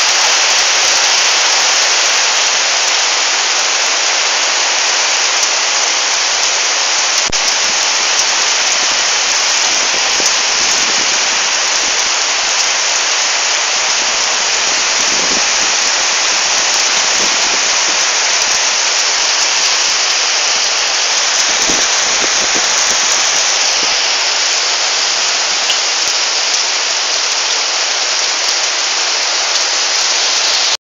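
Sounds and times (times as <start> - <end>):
heavy rain pouring: 0.0 - 30.8.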